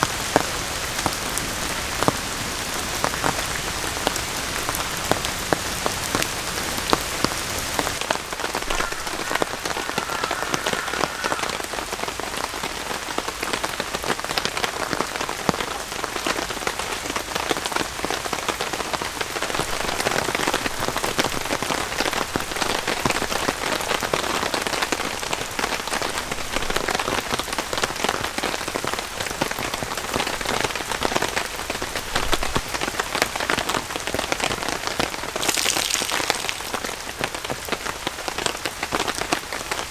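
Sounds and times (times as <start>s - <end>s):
raindrops ticking on a surface: 0.0s - 11.3s, 13.4s - 39.9s
steady rain hissing: 0.0s - 39.9s.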